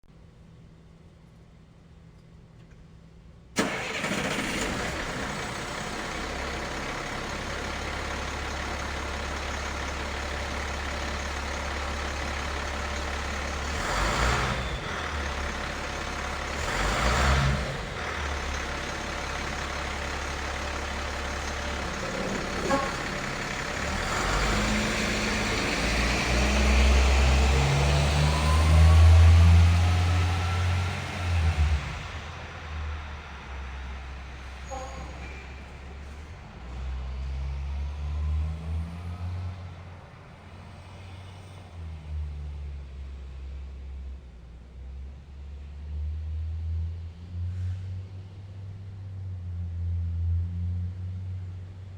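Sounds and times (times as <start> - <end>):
truck engine: 3.6 - 51.9.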